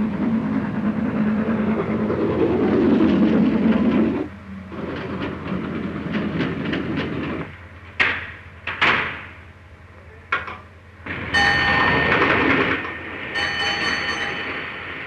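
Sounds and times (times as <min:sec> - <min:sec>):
steam locomotive running: 0:00.0 - 0:09.5, 0:10.9 - 0:15.0.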